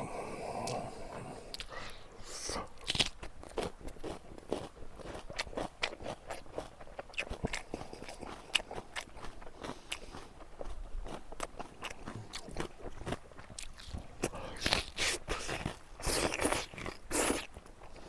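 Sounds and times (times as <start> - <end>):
crunchy chewing: 0.1 - 18.0.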